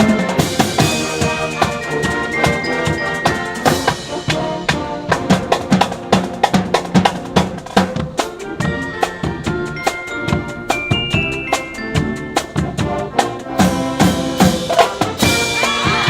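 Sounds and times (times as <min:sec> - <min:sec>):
drumline beat: 0:00.0 - 0:16.0
held brass notes: 0:00.0 - 0:16.0
marching band playing: 0:00.0 - 0:16.0.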